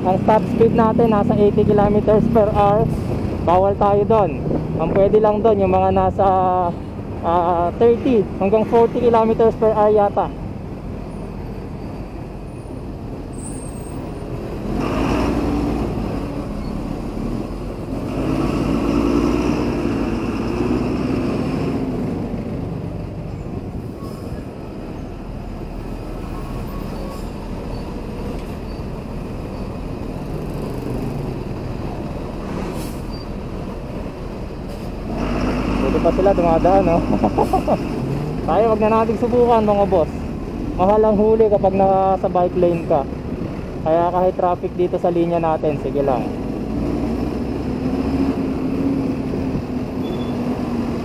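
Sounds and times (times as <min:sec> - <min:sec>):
bus engine running: 0:00.0 - 0:51.0
low rumble of traffic: 0:00.0 - 0:51.0.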